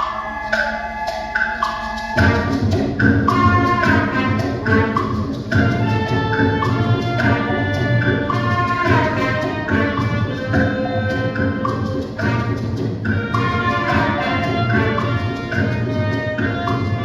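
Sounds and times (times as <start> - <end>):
symphonic band playing: 0.0 - 17.0.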